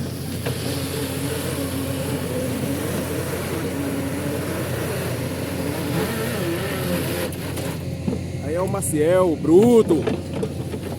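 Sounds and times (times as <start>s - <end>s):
heavy vehicle engine running: 0.0s - 10.9s.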